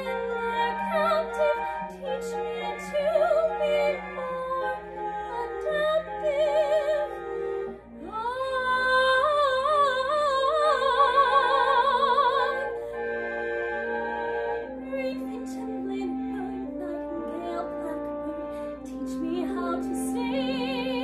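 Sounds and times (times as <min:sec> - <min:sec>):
woman singing with vibrato: 0:00.0 - 0:07.2, 0:08.0 - 0:13.0, 0:14.8 - 0:21.0
instrumental accompaniment: 0:00.0 - 0:21.0.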